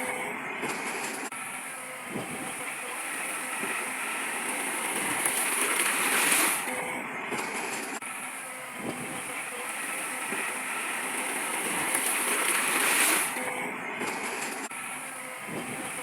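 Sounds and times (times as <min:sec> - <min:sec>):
heavy earthmoving machinery: 0:00.0 - 0:16.0.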